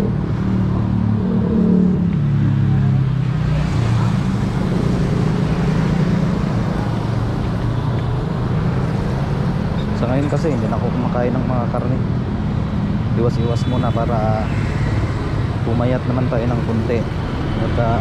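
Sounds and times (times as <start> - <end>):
motorcycles passing by: 0.0 - 18.0
street traffic: 0.0 - 18.0.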